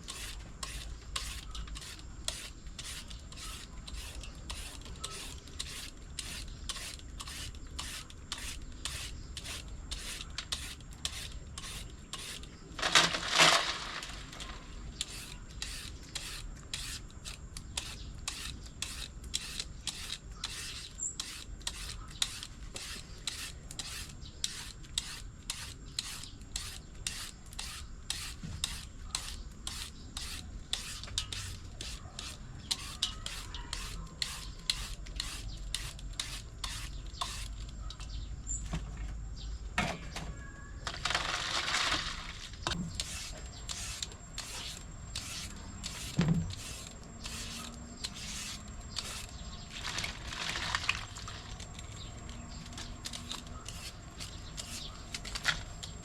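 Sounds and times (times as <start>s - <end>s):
papaya shredding scrapes: 0.0s - 37.7s, 41.0s - 56.0s.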